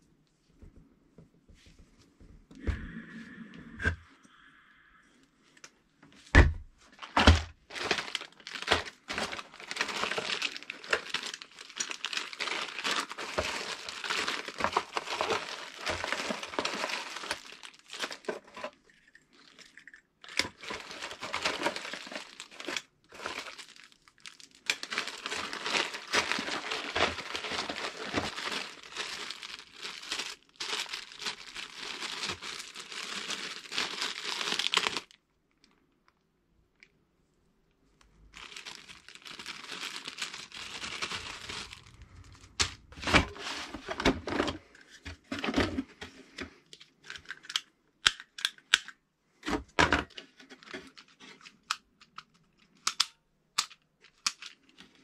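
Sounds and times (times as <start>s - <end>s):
crinkling handling noise: 5.4s - 36.9s, 37.6s - 55.0s.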